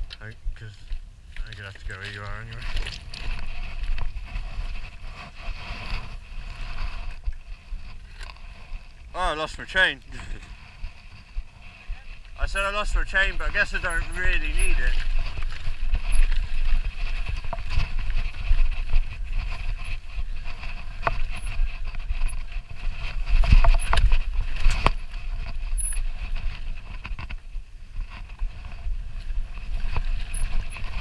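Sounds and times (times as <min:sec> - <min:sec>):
bike frame rattling over stones: 0:00.0 - 0:31.0
wind rumble on microphone: 0:00.0 - 0:31.0.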